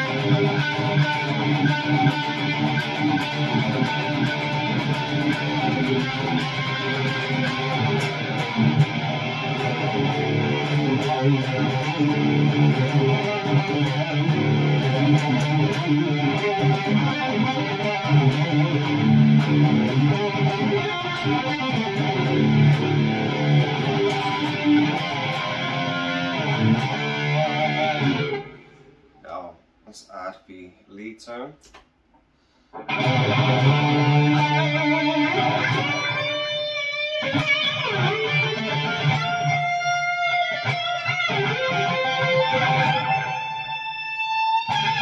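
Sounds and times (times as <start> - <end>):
electric guitar playing: 0.0 - 29.2, 32.8 - 45.0.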